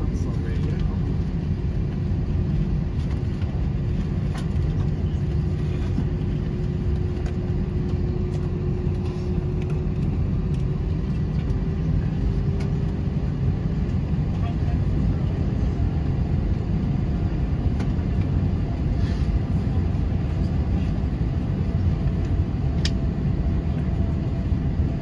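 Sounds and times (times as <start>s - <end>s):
jet engines idling rumble: 0.0s - 25.0s.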